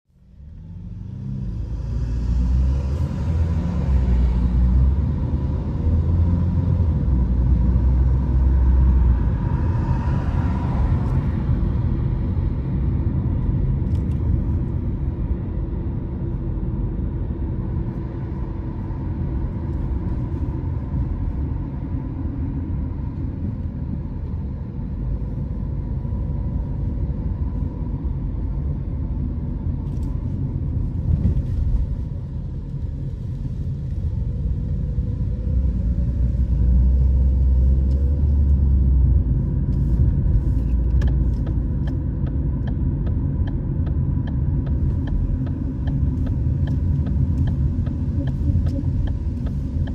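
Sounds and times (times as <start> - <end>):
car engine and tyre rumble: 0.1 - 49.9.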